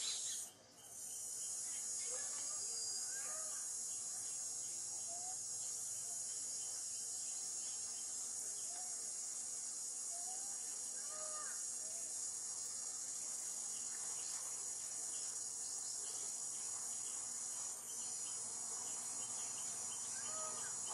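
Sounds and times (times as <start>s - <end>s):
insects droning: 0.0s - 20.9s.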